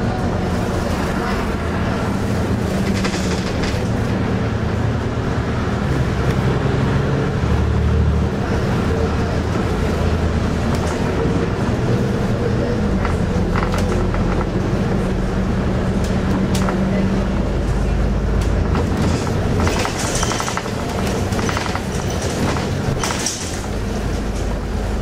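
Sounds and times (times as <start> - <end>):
bus engine: 0.0 - 25.0
road rumble: 0.0 - 25.0
rattles of bus fittings: 0.5 - 5.2, 8.7 - 25.0.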